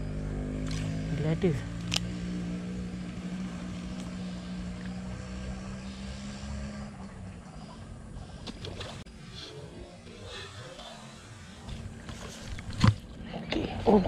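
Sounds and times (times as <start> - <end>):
motor engine droning: 0.0 - 14.0.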